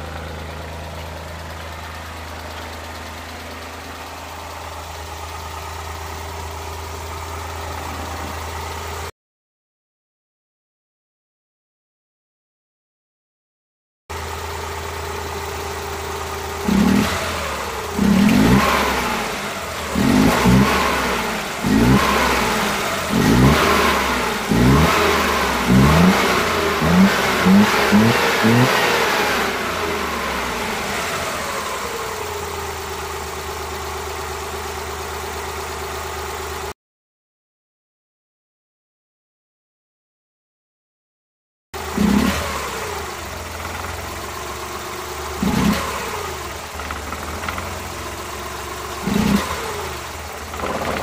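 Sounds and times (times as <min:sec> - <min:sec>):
engine idling and revving: 0:00.0 - 0:09.1, 0:14.1 - 0:36.8, 0:41.8 - 0:51.0.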